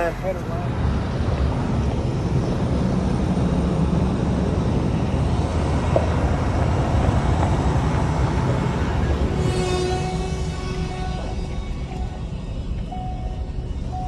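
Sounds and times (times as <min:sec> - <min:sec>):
tractor engine rumbling: 0:00.0 - 0:14.0.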